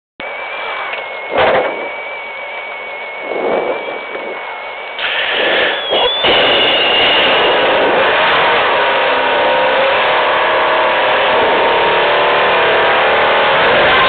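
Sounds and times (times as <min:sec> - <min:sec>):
rally car engine running: 0:00.2 - 0:14.0
steady high whine: 0:00.2 - 0:14.0.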